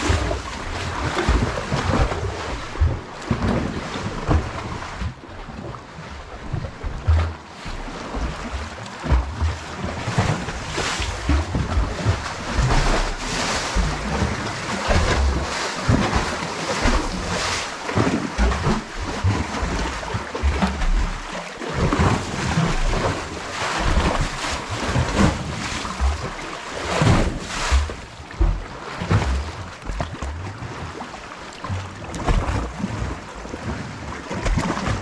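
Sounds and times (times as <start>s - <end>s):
water lapping and splashing: 0.0s - 35.0s.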